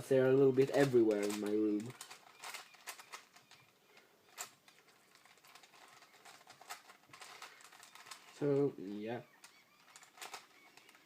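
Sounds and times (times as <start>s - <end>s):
puzzle cube layers clicking: 0.5s - 8.4s, 9.2s - 11.0s.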